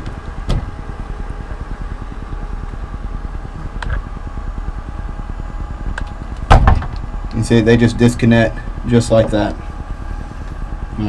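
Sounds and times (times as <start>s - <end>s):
mechanical hum and rumble: 0.0s - 11.0s.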